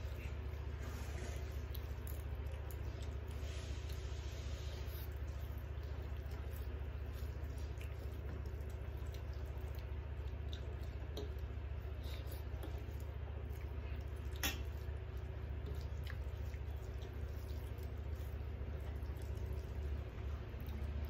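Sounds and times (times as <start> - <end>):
steady low hum: 0.0 - 21.0
wet squishing of food mixed by hand: 0.0 - 21.0.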